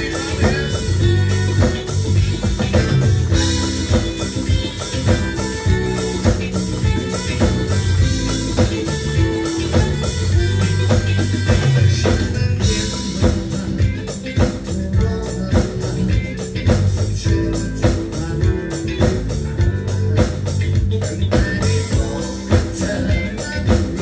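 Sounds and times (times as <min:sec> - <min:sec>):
electronic drums: 0:00.0 - 0:24.0
rock band music: 0:00.0 - 0:24.0.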